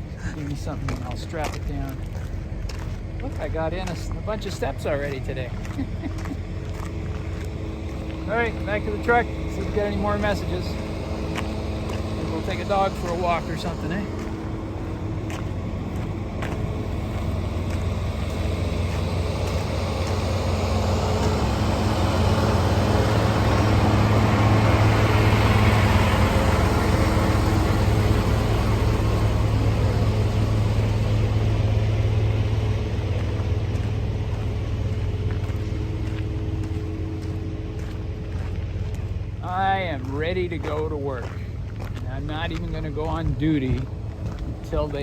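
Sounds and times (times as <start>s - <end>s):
truck diesel engine idling: 0.0s - 45.0s.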